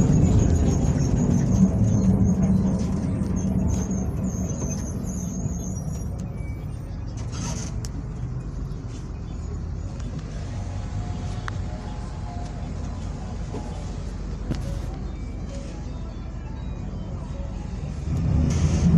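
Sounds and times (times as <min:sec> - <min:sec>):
bus diesel engine droning: 0:00.0 - 0:18.9.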